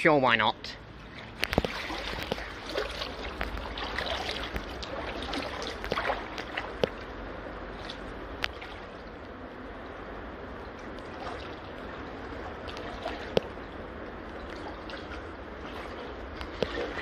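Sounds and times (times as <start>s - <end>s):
rushing water: 0.0s - 17.0s
wading sloshes and splashes: 0.8s - 17.0s.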